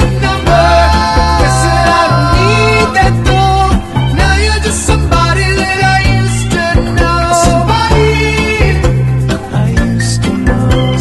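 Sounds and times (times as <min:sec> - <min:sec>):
song with heavy bass beat: 0:00.0 - 0:11.0.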